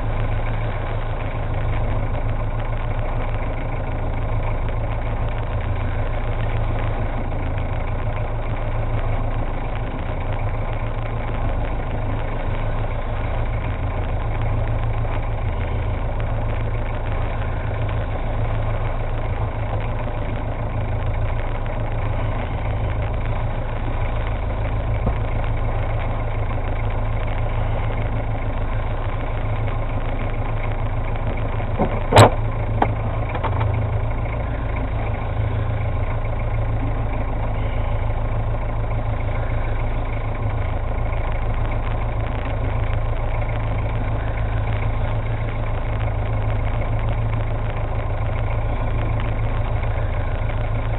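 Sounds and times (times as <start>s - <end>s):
boat engine idling: 0.0s - 50.9s.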